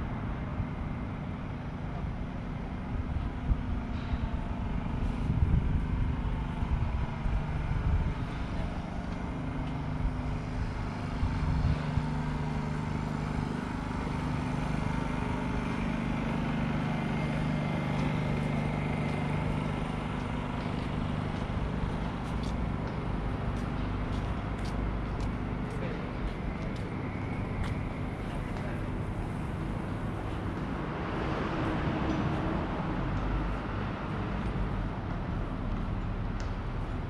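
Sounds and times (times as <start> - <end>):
vehicle engines running: 0.0 - 37.0.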